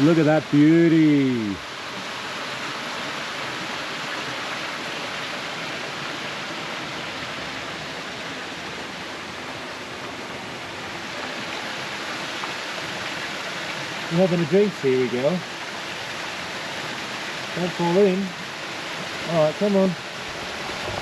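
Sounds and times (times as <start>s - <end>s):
water rushing over rocks: 0.0s - 21.0s.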